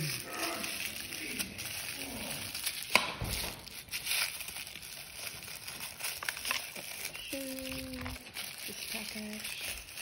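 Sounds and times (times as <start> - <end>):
plastic packaging rustling: 0.0 - 10.0.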